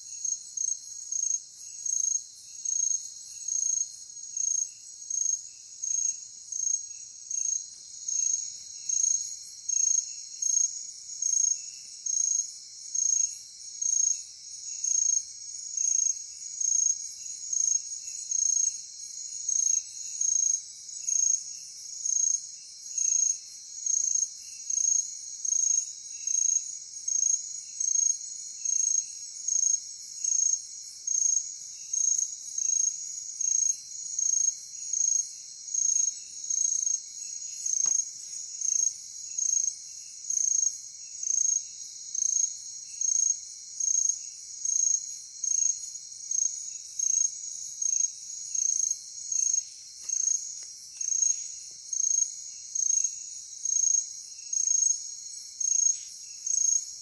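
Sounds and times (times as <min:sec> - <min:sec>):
crickets pulsed chirping: 0:00.0 - 0:57.0.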